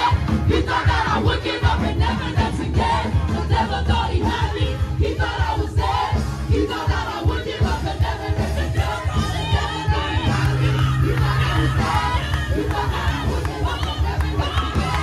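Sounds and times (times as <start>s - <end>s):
congregation singing and shouting: 0.0s - 15.0s.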